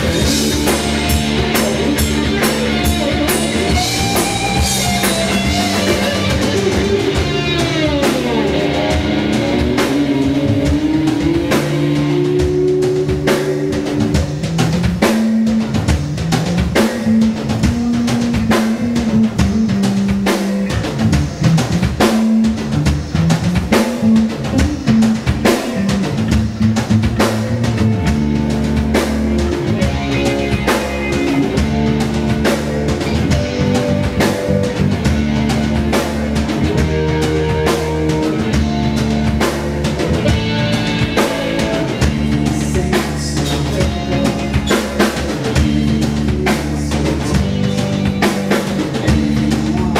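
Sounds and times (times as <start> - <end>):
bass guitar: 0.0 - 49.9
drum kit beat: 0.0 - 49.9
electric guitars: 0.0 - 49.9.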